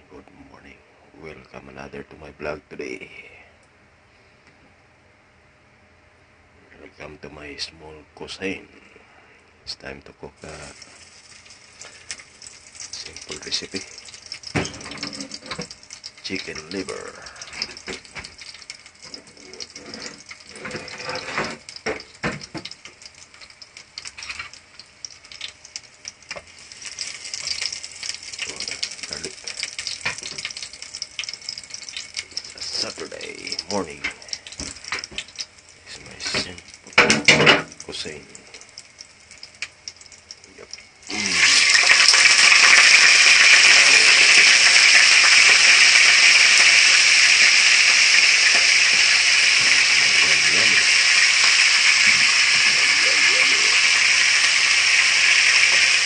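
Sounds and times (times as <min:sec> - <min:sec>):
garlic sizzling in a pot: 0:10.4 - 0:56.0.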